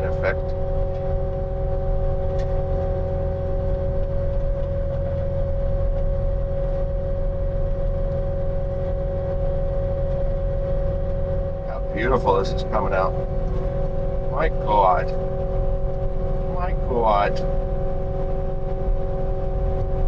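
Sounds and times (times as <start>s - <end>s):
diesel engine rumbling under load: 0.0s - 19.4s
power rake whine: 0.0s - 20.0s.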